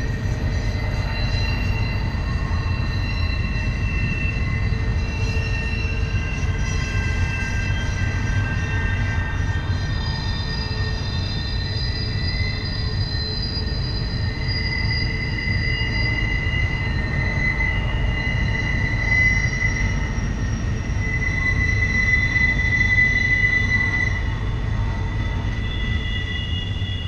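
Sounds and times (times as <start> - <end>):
low rumble of train cars: 0.0 - 27.0
train wheels squealing on rail: 0.0 - 27.0.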